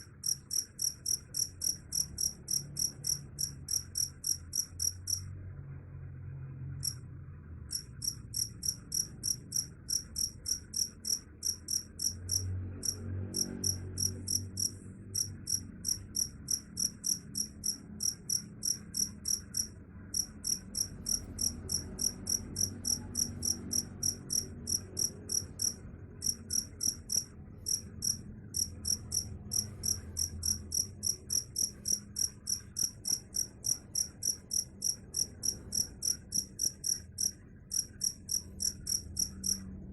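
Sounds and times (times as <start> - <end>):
cricket chirping: 0.0 - 5.4, 6.7 - 7.0, 7.6 - 39.9
faint low rumble: 0.0 - 39.9.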